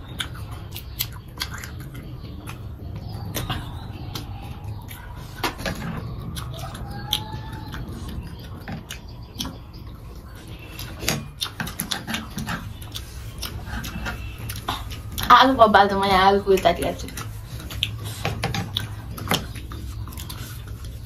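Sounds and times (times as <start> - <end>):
chewing: 0.0 - 21.0
low steady hum: 0.0 - 21.0.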